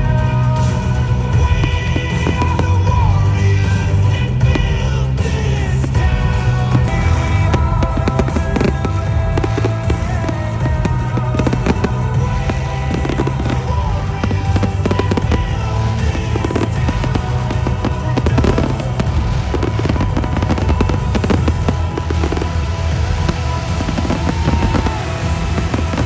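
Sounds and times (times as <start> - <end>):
fireworks bursting and crackling: 0.0 - 26.0
music over sound system: 0.0 - 26.0.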